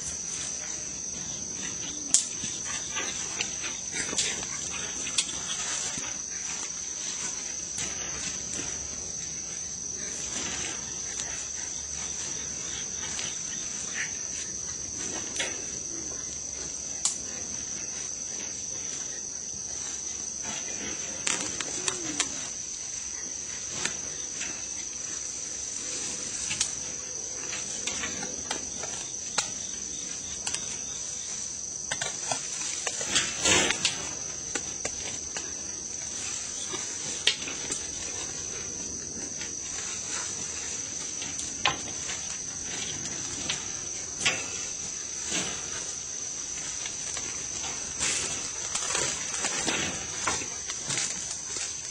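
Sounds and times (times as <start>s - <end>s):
animals rustling in cage: 0.0s - 51.9s
high-pitched insect drone: 0.0s - 51.9s.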